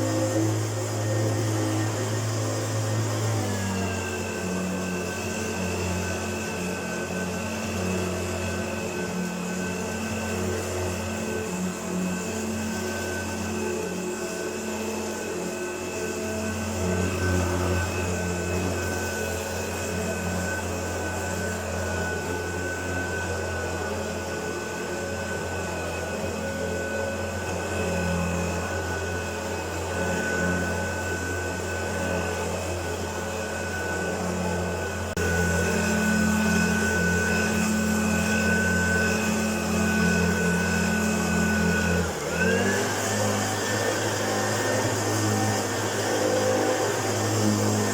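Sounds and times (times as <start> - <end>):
vacuum cleaner motor drone: 0.0 - 47.9.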